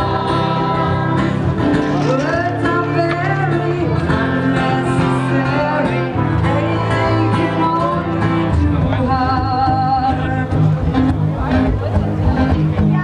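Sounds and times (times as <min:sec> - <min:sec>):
person singing: 0:00.0 - 0:10.6
guitar accompaniment: 0:00.0 - 0:13.0
low bass notes: 0:00.0 - 0:13.0.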